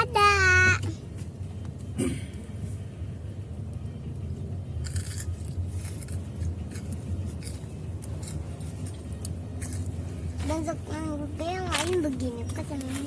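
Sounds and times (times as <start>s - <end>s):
car low rumble: 0.0s - 13.0s.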